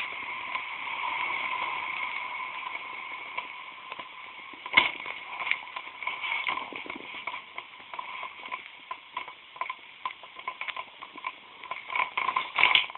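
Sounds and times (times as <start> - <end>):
burning matchsticks crackling: 0.0 - 12.9.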